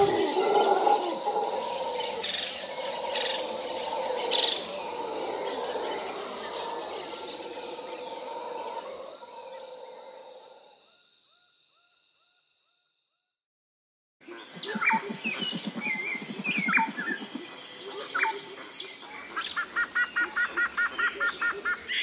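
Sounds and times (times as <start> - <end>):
insects chirping: 0.0 - 13.2, 14.2 - 22.0.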